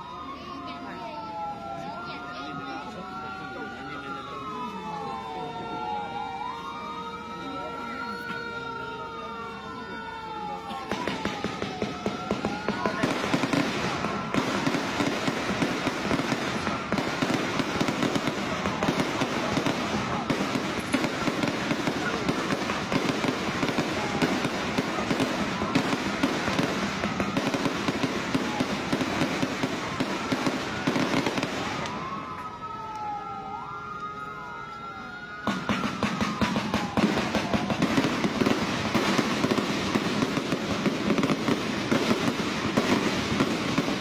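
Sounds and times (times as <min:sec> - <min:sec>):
firecrackers crackling: 0:00.1 - 0:44.0.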